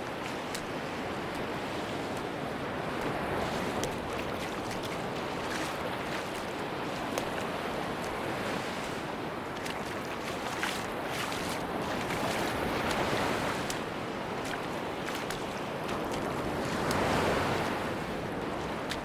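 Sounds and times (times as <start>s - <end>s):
surf washing onto beach: 0.0s - 19.0s.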